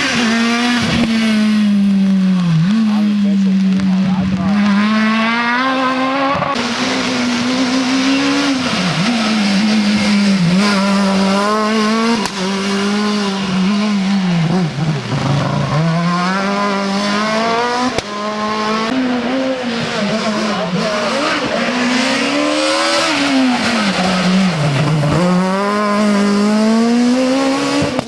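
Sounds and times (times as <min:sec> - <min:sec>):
rally car engine at high revs: 0:00.0 - 0:28.0.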